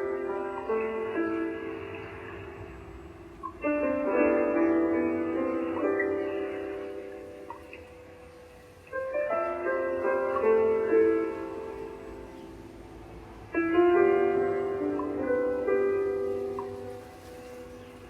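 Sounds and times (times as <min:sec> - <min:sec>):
soft piano chords: 0:00.0 - 0:18.0.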